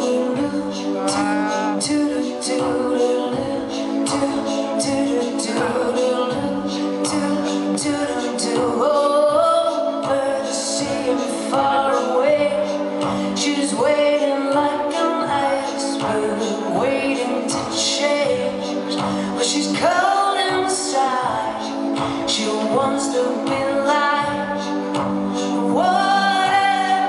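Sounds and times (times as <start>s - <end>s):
instrumental accompaniment with beat: 0.0s - 27.0s
woman singing: 0.0s - 27.0s.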